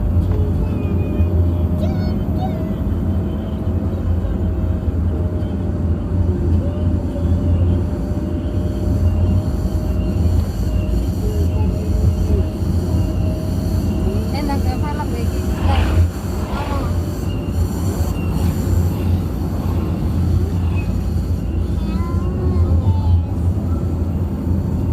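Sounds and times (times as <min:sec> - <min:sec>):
vehicle engine and road noise: 0:00.0 - 0:24.9.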